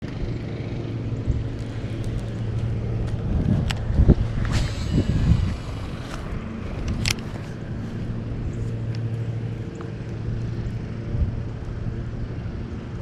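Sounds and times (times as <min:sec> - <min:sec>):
steady low hum: 0:00.0 - 0:13.0
wind buffeting microphone: 0:00.2 - 0:13.0.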